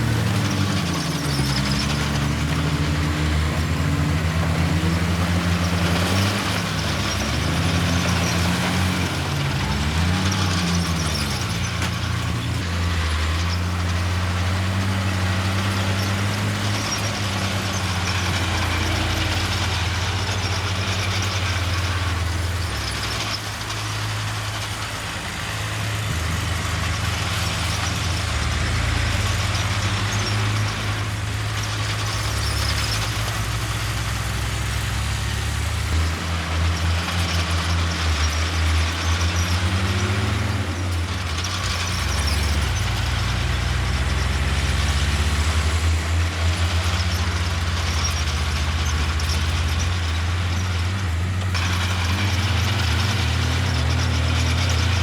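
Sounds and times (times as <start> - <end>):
heavy machinery diesel engines revving: 0.0 - 55.0.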